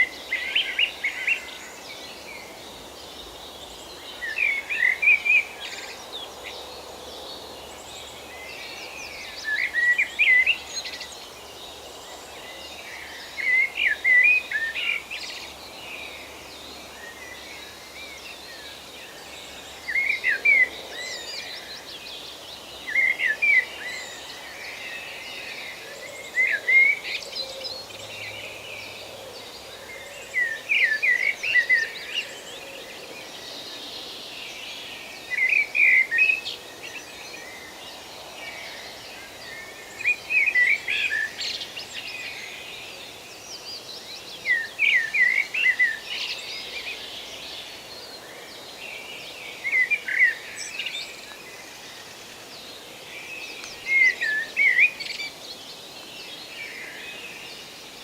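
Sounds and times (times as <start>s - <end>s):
soft steady hiss: 0.0s - 58.0s
songbird singing: 0.0s - 58.0s.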